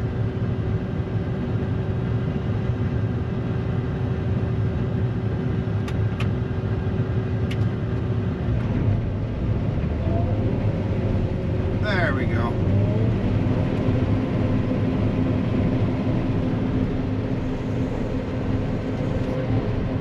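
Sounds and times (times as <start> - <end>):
combine harvester engine rumble: 0.0 - 20.0.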